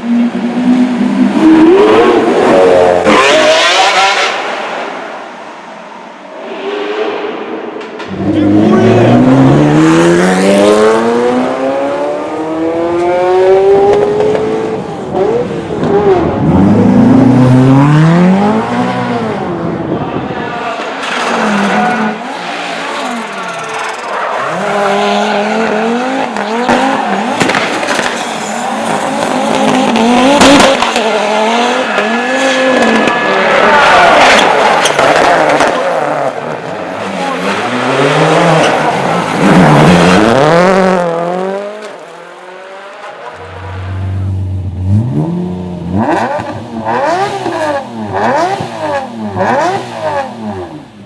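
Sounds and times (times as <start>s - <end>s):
car engine revving and accelerating: 0.0s - 5.0s, 6.8s - 20.0s, 20.6s - 51.0s.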